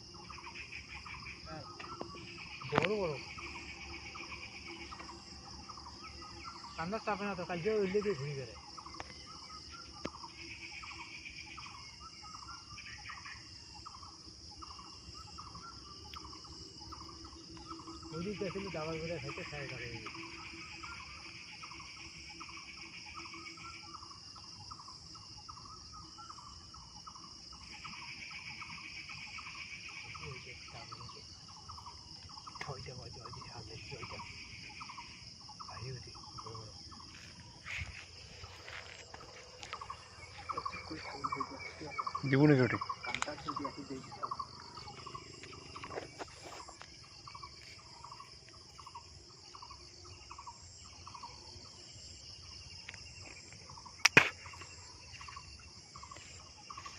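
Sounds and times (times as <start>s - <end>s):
crickets chirring: 0.0s - 56.9s
high insect buzz: 0.0s - 56.9s.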